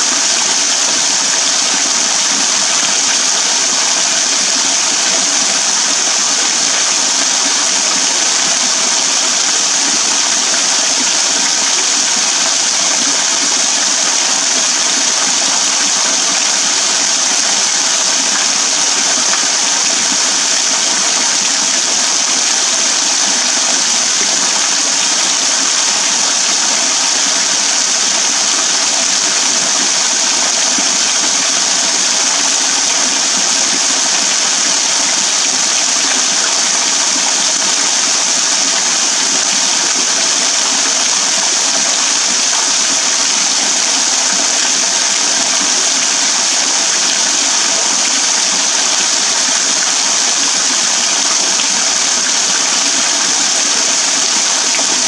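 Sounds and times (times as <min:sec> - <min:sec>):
small waterfall splashing into pool: 0:00.0 - 0:55.0.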